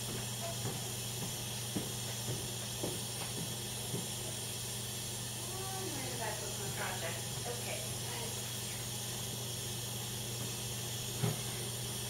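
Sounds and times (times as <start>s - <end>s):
oven broiler hiss and hum: 0.0s - 12.0s.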